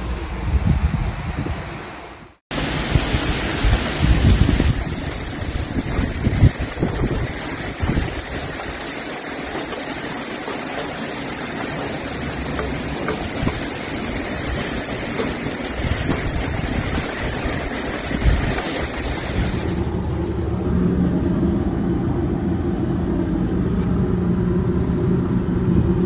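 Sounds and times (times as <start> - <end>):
storm and flood water rushing: 0.0 - 22.0
vehicle engine hum: 2.6 - 26.0.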